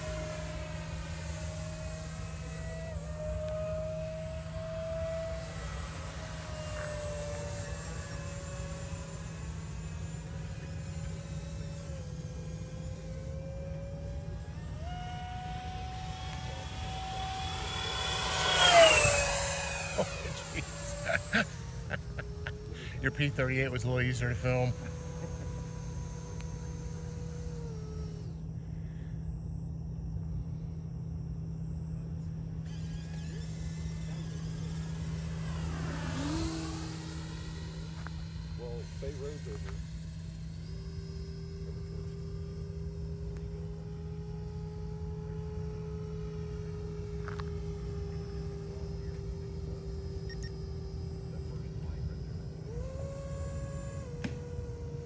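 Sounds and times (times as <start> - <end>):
electric ducted fan whining: 0.0 - 55.0.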